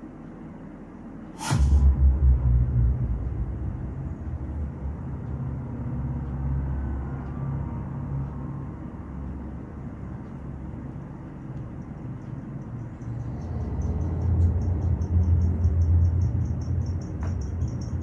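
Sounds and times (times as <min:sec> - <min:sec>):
deep engine rumble: 0:01.4 - 0:18.0.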